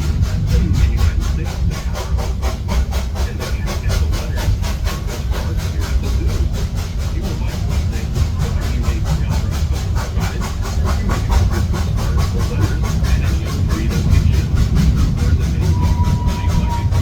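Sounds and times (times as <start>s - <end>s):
thin steady whine: 0.0s - 17.0s
train rumbling with rhythmic beat: 0.0s - 17.0s.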